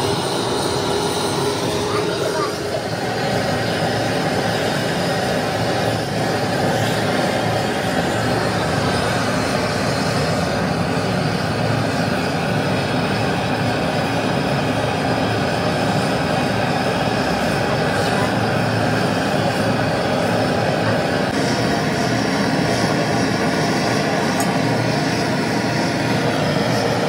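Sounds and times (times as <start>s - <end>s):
gas burner flame roaring: 0.0s - 27.0s.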